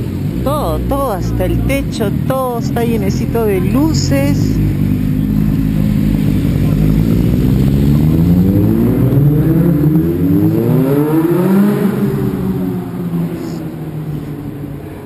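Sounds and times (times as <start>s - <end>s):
sport motorcycle engines accelerating: 0.0s - 15.0s.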